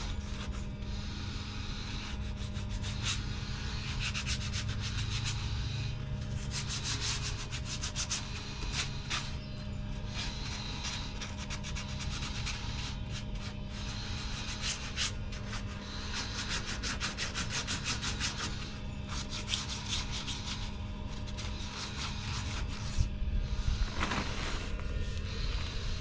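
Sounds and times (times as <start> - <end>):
hand sanding scratchy strokes: 0.0 - 26.0.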